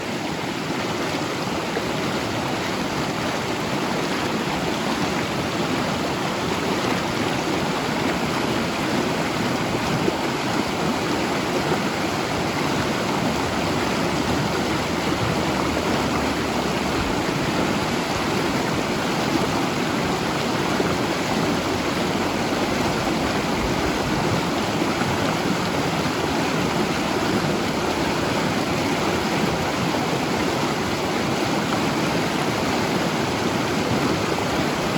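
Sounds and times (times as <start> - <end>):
river flowing over rocks: 0.0 - 34.9.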